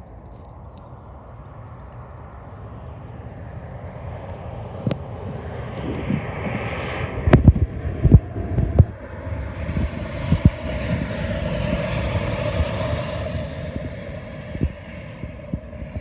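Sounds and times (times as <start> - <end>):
airliner engine noise: 0.0 - 16.0.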